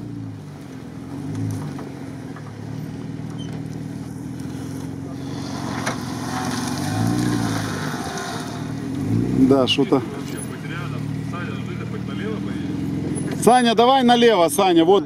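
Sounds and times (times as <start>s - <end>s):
car engine pulling under load: 0.0s - 15.0s
tyres churning snow: 0.0s - 15.0s.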